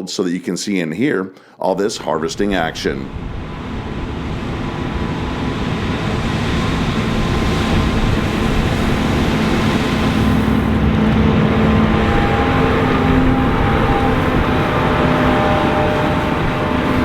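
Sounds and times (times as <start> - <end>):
thin steady whine: 2.1 - 17.0
combine harvester engine drone: 2.2 - 17.0.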